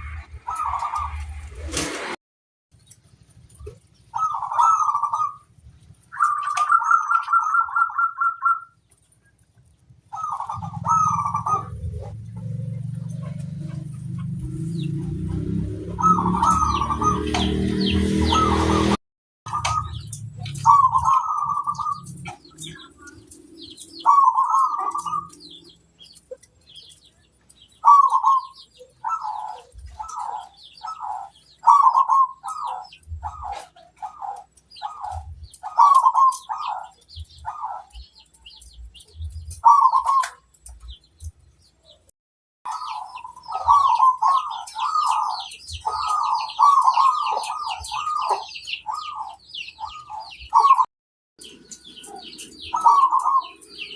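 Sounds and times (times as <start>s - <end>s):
small birds chirping: 0.0s - 1.4s, 2.8s - 42.1s, 42.7s - 53.9s
doves cooing: 0.0s - 2.0s, 3.4s - 8.8s, 10.1s - 41.0s, 42.7s - 50.9s, 51.5s - 53.9s.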